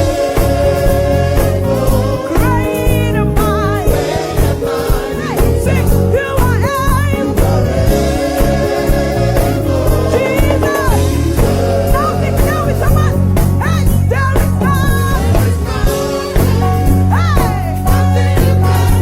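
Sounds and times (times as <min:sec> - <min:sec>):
band playing gospel groove: 0:00.0 - 0:19.0
voices singing wordless lines: 0:00.0 - 0:19.0.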